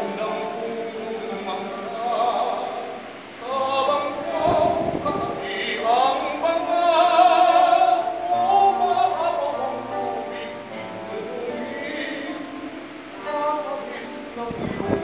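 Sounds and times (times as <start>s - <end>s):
classical guitar: 0.0s - 15.0s
tenor singing operatically: 0.0s - 15.0s.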